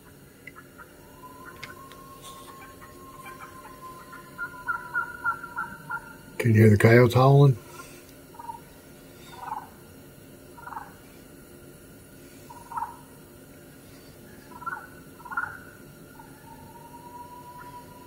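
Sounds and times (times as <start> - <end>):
distant coyotes howling: 0.0 - 18.0.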